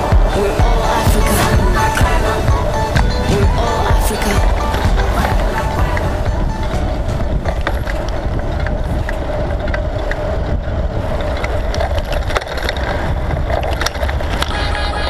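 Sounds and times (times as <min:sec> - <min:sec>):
bike rumbling over rough road: 0:00.0 - 0:15.0.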